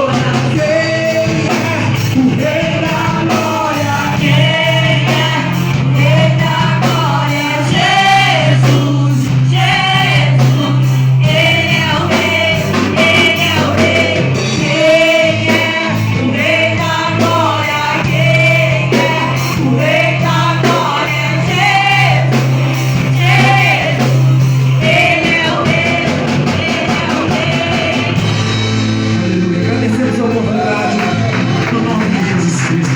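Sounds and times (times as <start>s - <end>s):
drum beat: 0.0s - 32.9s
group singing a worship song: 0.0s - 32.9s
held low bass notes: 0.0s - 32.9s.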